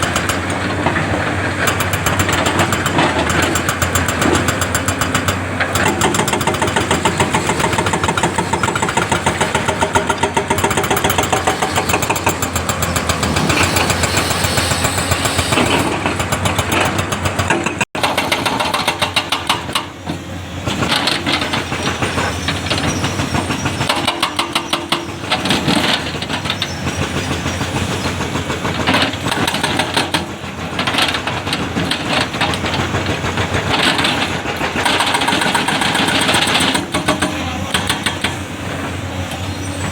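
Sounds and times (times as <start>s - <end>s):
excavator diesel engine knocking: 0.0s - 39.9s.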